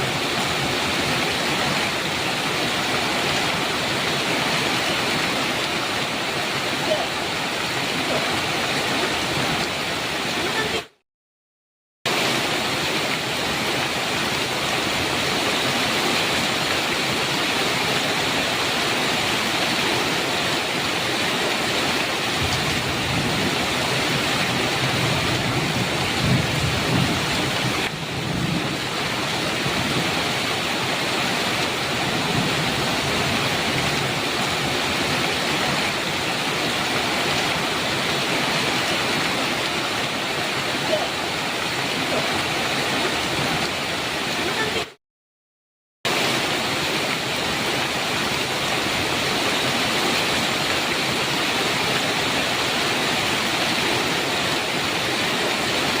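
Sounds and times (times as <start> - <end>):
heavy rain: 0.0 - 11.0, 12.1 - 45.0, 46.1 - 56.0.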